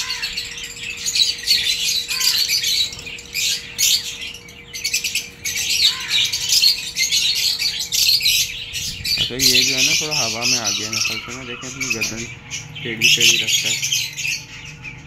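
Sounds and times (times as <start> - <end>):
budgerigars chattering and chirping: 0.0 - 15.0.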